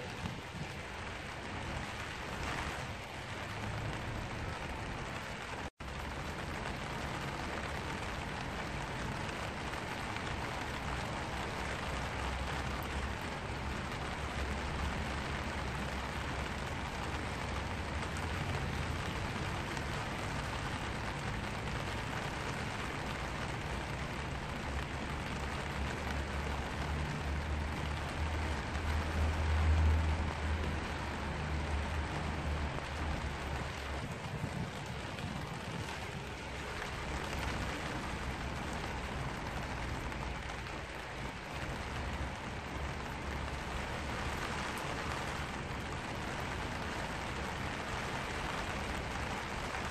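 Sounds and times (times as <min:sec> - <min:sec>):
rain on an umbrella: 0:00.0 - 0:49.9.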